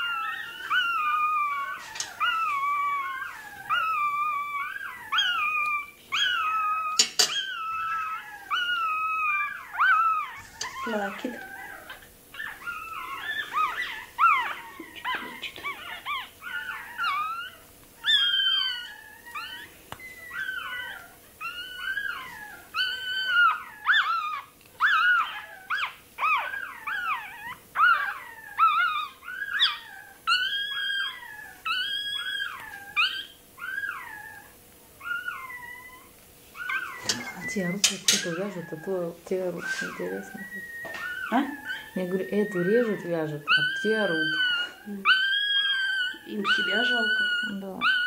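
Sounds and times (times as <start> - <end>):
puppy squealing: 0.0 - 48.0.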